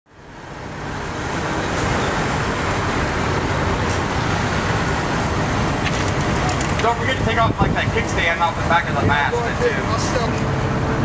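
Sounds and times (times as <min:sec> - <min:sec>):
heavy vehicle engine running: 0:00.1 - 0:11.0.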